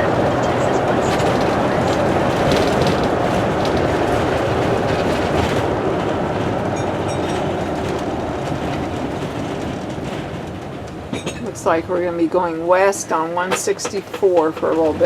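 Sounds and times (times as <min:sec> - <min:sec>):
road and engine noise: 0:00.0 - 0:15.0.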